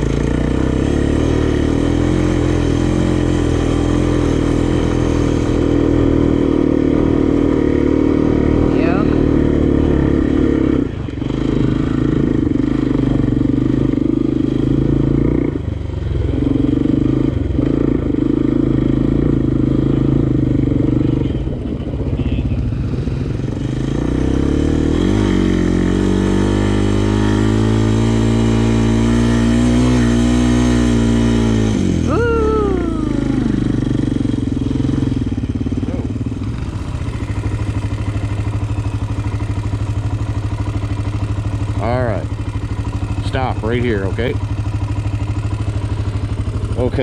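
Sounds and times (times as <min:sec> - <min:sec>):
atv engine revving: 0:00.0 - 0:47.0.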